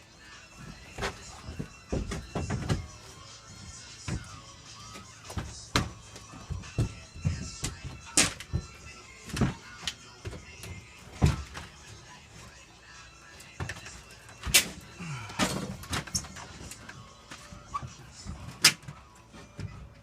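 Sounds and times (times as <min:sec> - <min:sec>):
music playing: 0:00.0 - 0:20.0.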